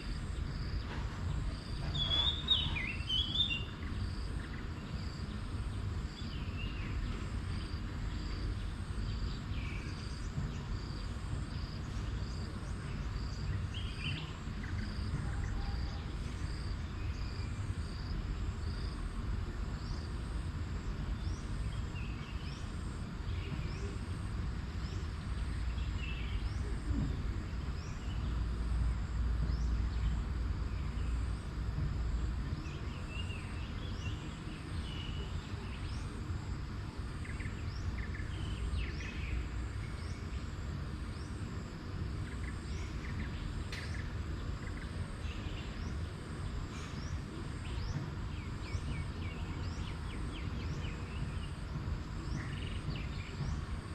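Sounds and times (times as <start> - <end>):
birds chirping: 0.1 - 17.8, 20.8 - 53.9.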